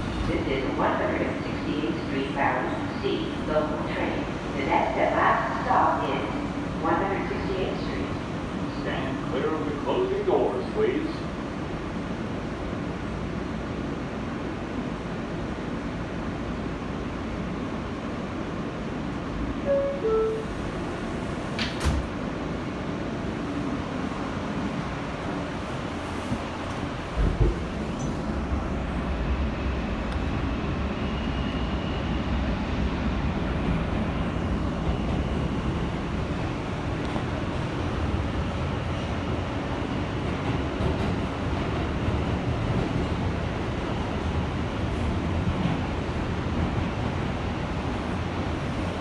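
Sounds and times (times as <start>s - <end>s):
low train rumble: 0.0s - 49.0s.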